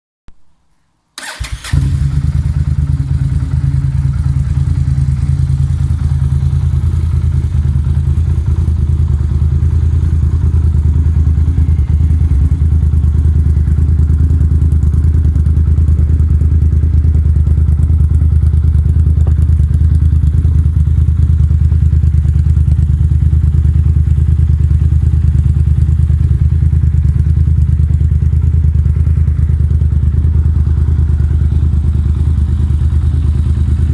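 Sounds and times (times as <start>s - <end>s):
motorcycle engine idling: 1.2s - 33.9s.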